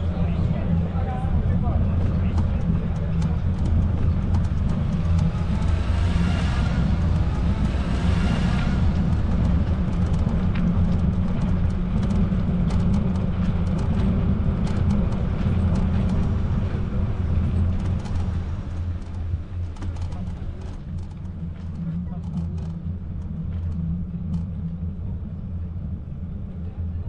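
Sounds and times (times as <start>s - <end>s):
rising whine: 0.0s - 26.7s
wind buffeting microphone: 0.0s - 27.0s.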